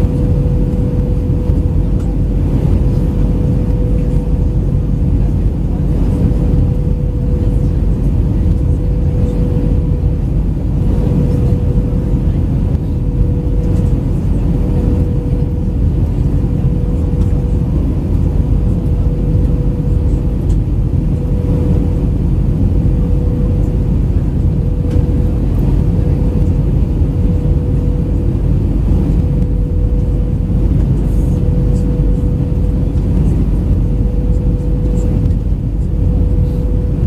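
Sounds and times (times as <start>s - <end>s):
airliner cabin engine rumble: 0.0s - 37.0s
constant mid-pitched hum: 0.0s - 37.0s.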